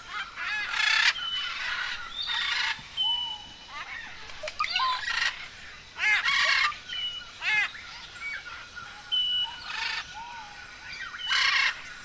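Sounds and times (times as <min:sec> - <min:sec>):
harsh bird calls: 0:00.0 - 0:12.0.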